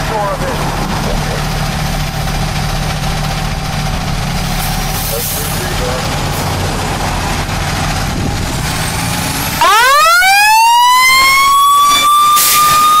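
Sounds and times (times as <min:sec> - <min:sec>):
fire truck engine idling: 0:00.0 - 0:12.6
fire truck siren wailing: 0:00.0 - 0:13.0.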